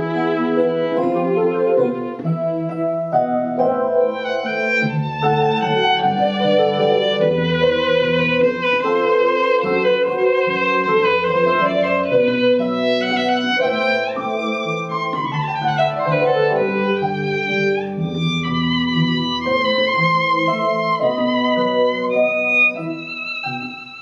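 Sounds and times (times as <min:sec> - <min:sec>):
violin melody: 0:00.0 - 0:24.0.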